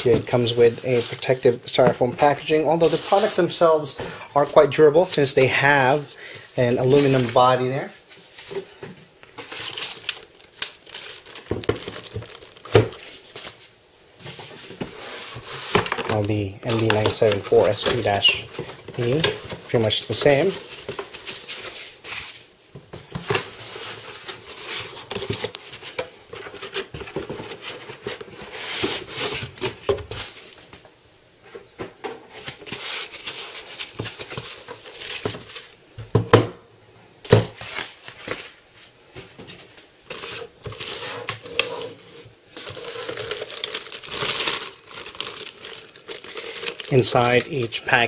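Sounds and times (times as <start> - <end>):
packaging rustling and crinkling: 0.0 - 3.9, 4.9 - 30.8, 32.3 - 35.8, 37.4 - 48.0.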